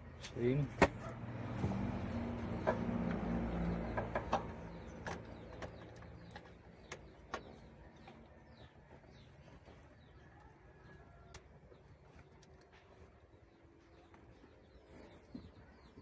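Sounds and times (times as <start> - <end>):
vehicle engine humming: 0.0 - 16.0
birds chirping faintly: 1.7 - 16.0.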